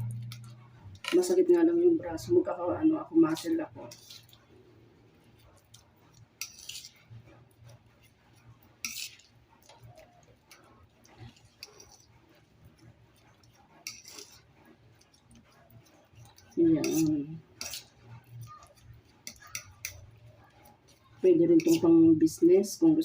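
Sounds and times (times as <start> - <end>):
fork scraping and clinking in bowl: 0.0 - 1.5, 3.3 - 4.5, 5.2 - 22.4.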